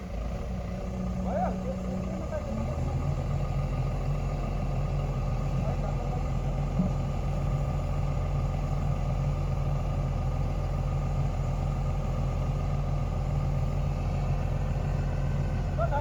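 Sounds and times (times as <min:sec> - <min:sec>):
construction machine engine running: 0:00.0 - 0:16.0.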